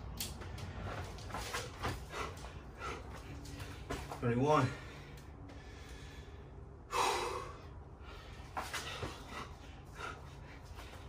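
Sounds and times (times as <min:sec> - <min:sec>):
person breathing hard: 0:00.7 - 0:11.0.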